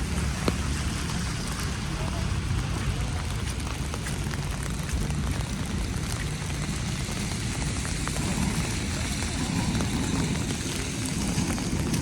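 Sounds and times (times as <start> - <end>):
hiss of wet snow falling: 0.0 - 12.0
low rumble: 0.0 - 12.0.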